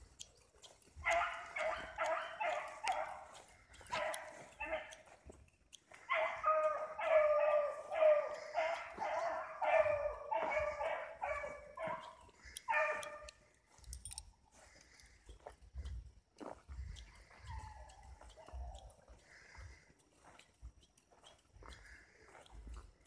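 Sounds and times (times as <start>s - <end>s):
hounds baying: 0.0s - 15.5s, 16.8s - 23.0s.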